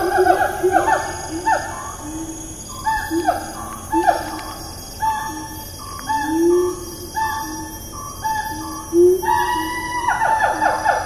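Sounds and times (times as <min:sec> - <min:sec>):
gibbon calling: 0:00.0 - 0:11.0.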